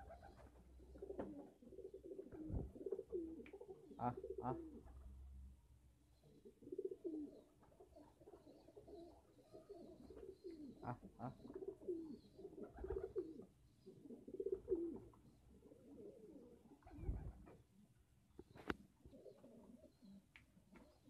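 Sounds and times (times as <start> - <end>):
pigeons cooing: 0.0 - 5.2, 6.2 - 17.9, 18.5 - 21.0.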